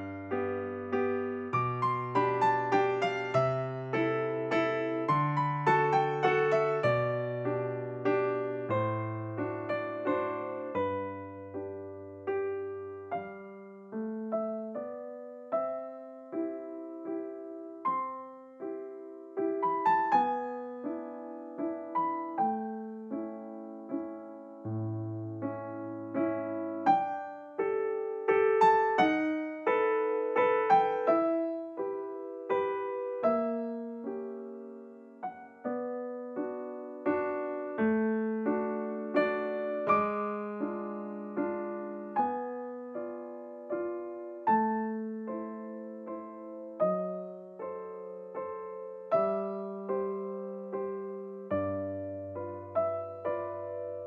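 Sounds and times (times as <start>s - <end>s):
slow piano melody: 0.0s - 54.0s.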